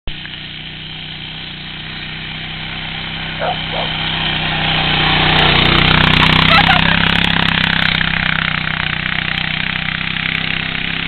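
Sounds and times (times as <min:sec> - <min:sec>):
quad bike engine running: 0:00.1 - 0:11.0.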